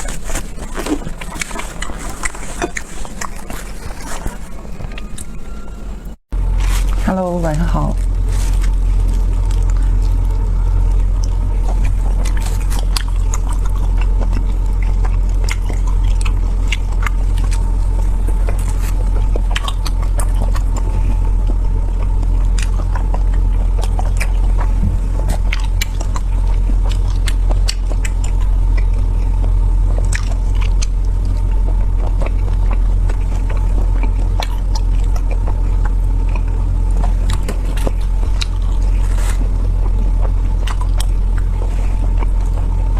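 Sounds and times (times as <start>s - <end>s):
person crunching and chewing: 0.0s - 5.8s, 7.9s - 42.9s
low rumble: 0.0s - 42.9s.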